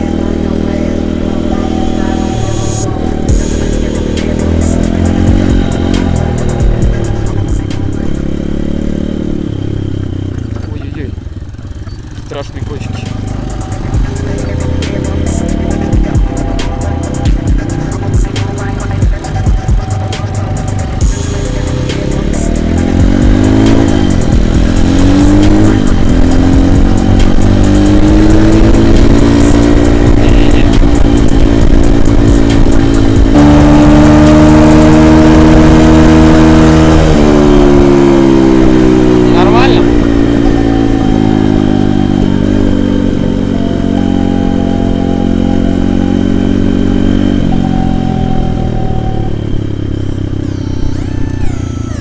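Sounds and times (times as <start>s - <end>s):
motorbike engine accelerating: 0.0s - 52.0s.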